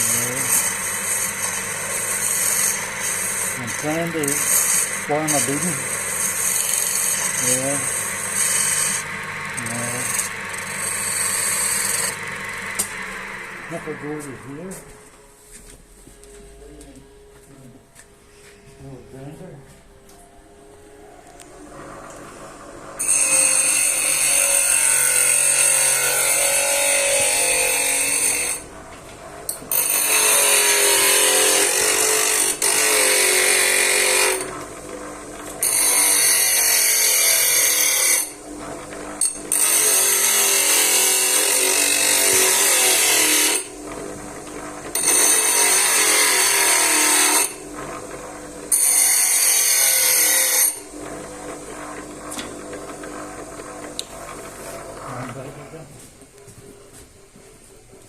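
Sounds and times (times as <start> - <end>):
grinder grinding metal: 0.0 - 19.6, 21.2 - 56.0.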